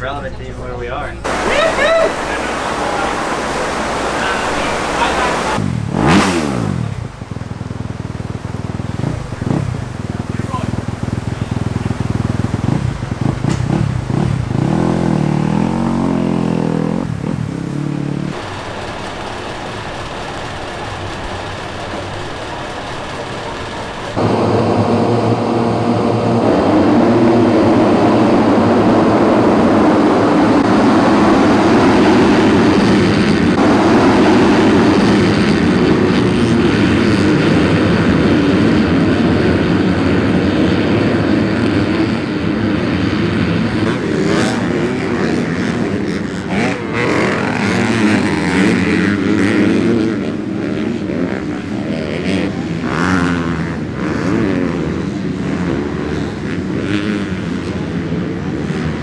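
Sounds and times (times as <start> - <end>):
dirt bike engines running: 0.0 - 59.0.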